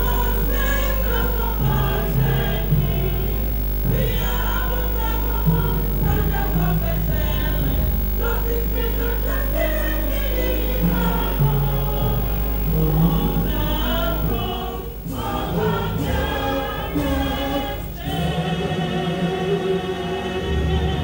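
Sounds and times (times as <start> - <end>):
choir singing with instruments: 0.0 - 21.0.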